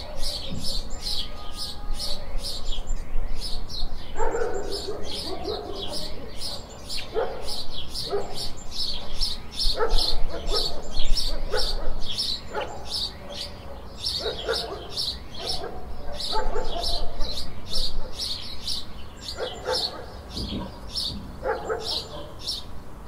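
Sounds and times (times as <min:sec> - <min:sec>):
lower-pitched bird calls: 0:00.0 - 0:22.8
songbirds chirping: 0:00.0 - 0:23.0.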